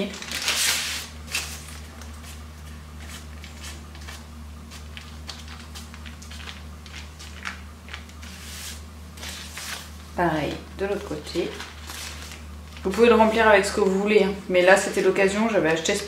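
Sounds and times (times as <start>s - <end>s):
parchment paper and dough rustling: 0.0s - 16.0s
steady low hum: 0.0s - 16.0s.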